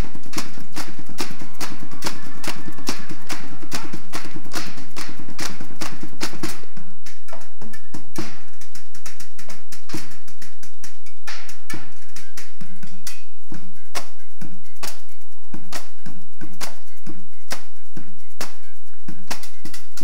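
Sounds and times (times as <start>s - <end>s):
discs clashing like cymbals: 0.0s - 20.0s
found-object percussion ensemble: 0.0s - 20.0s.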